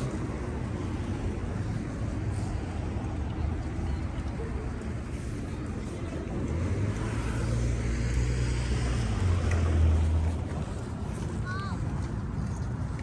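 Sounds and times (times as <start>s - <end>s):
vehicle engine humming: 0.0s - 11.1s
traffic noise: 0.0s - 13.0s.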